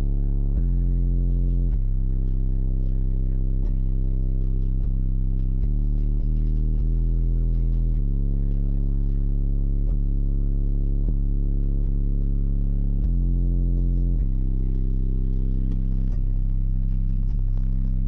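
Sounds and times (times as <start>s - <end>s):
deep bass through subwoofers: 0.0s - 18.0s.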